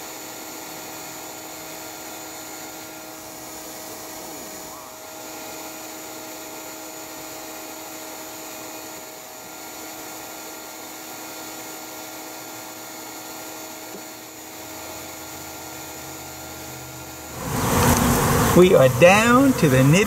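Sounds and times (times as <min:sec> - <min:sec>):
vacuum motor hum: 0:00.0 - 0:20.0.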